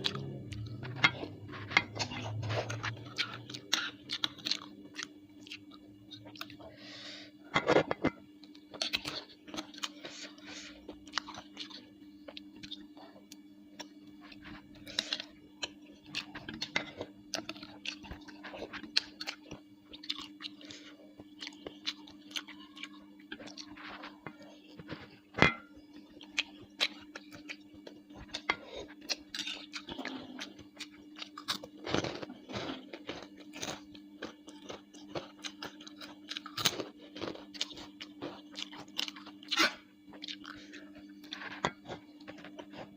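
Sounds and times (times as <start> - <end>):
wet chewing and crunching: 0.0 - 6.7, 7.7 - 25.1, 25.9 - 42.9
steady low hum: 0.0 - 42.9.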